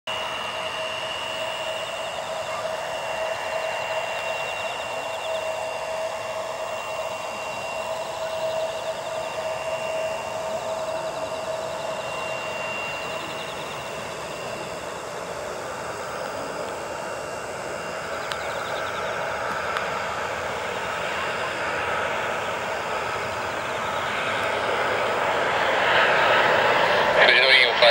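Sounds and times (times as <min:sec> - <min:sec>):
jet engine whine and hiss: 0:00.1 - 0:27.9.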